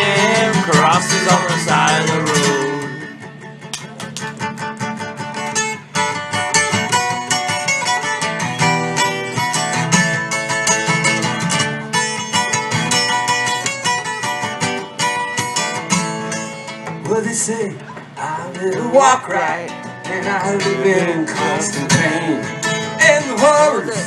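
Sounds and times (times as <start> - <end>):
guitar picked and strummed: 0.0 - 24.0.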